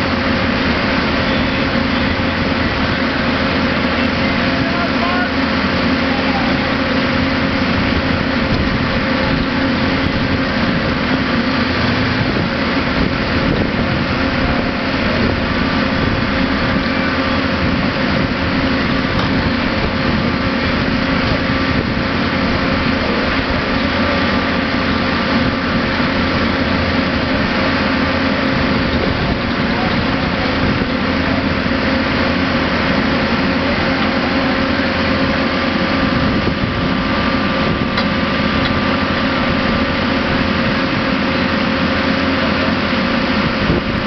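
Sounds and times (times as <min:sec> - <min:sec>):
welding machine humming: 0:00.0 - 0:44.0.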